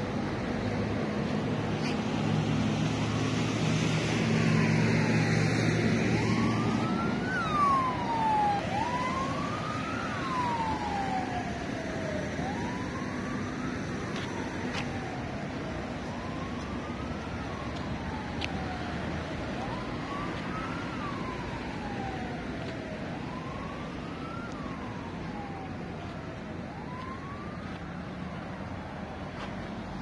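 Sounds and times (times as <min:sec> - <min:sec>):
distant siren wailing: 0:00.1 - 0:30.0.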